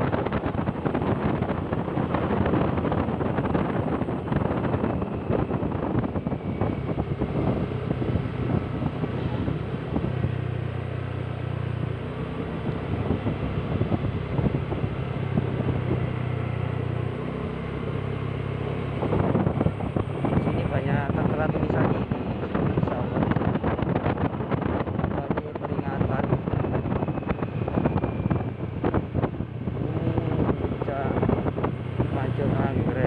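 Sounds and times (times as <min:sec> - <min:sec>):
vehicle engine running: 0:00.0 - 0:33.0
wind buffeting microphone: 0:00.0 - 0:33.0.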